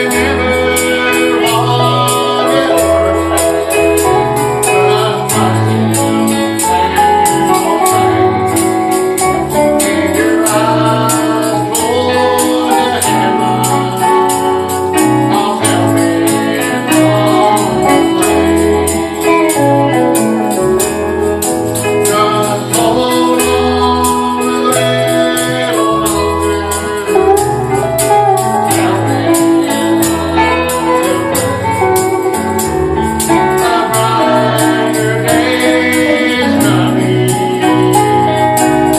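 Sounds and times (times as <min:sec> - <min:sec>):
live gospel music with singing: 0:00.0 - 0:38.9
tambourine jingling: 0:00.0 - 0:38.9.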